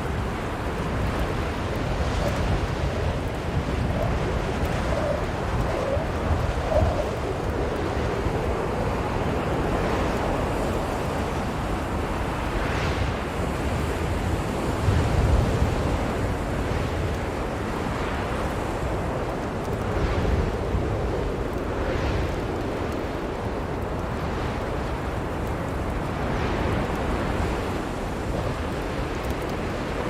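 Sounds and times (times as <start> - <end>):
blizzard wind blowing: 0.0 - 30.0.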